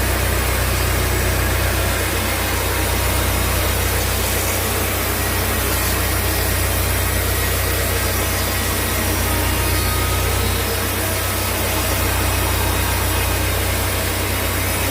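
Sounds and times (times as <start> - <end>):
sawmill machinery running: 0.0 - 14.9.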